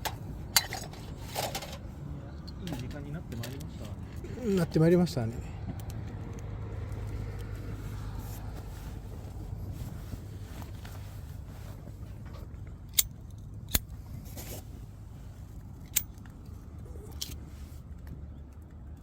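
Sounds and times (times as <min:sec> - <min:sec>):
campfire burning: 0:03.6 - 0:19.0.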